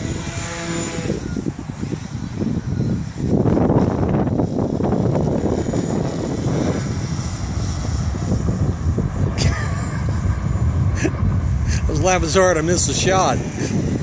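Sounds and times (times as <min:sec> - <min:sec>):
model airplane motor whine: 0:00.0 - 0:14.0
wind buffeting microphone: 0:00.0 - 0:14.0.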